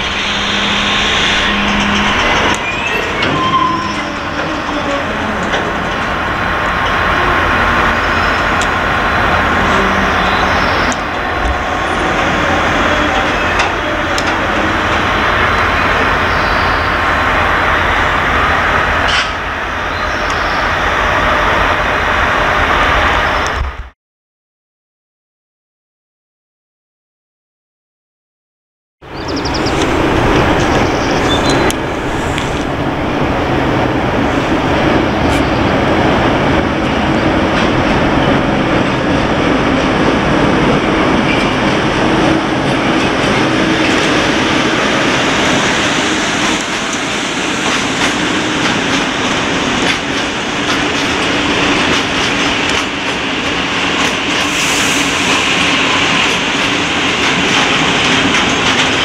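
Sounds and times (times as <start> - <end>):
locomotive engine hum: 0.0 - 23.6, 29.1 - 54.8.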